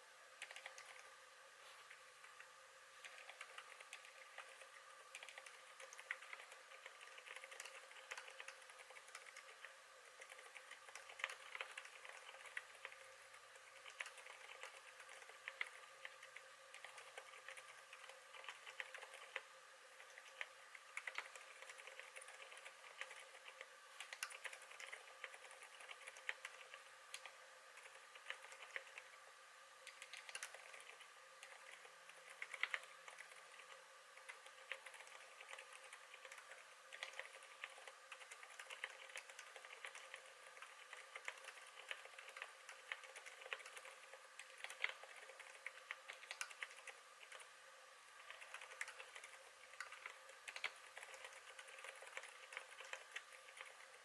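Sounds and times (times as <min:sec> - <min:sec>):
soft keyboard typing: 0:00.4 - 0:01.1, 0:01.8 - 0:29.2, 0:29.8 - 0:54.0.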